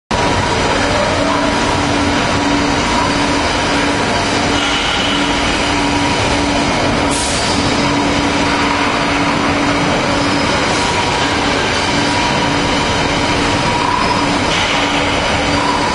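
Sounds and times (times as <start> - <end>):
machinery rumble: 0.1 - 15.9
steady machinery hum: 0.1 - 15.9.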